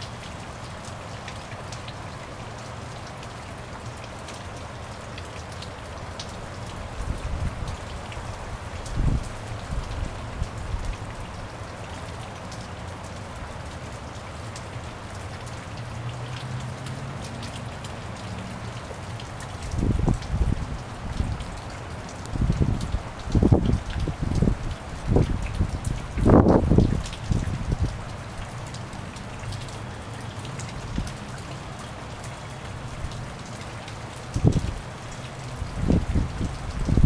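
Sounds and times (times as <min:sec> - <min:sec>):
rain falling on puddles: 0:00.0 - 0:37.0.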